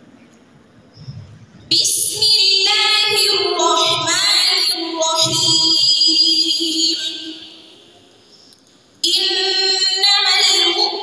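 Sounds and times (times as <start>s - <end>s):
woman reciting melodically: 1.7s - 11.0s.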